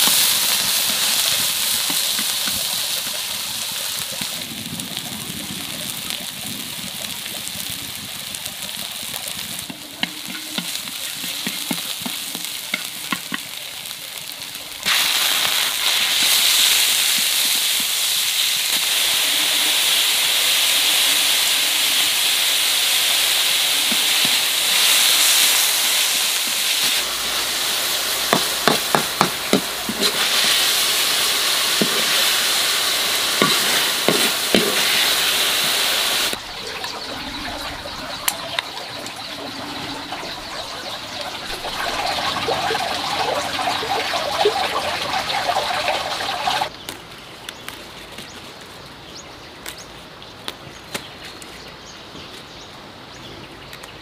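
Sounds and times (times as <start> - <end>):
meat sizzling in a wok: 0.0 - 46.7.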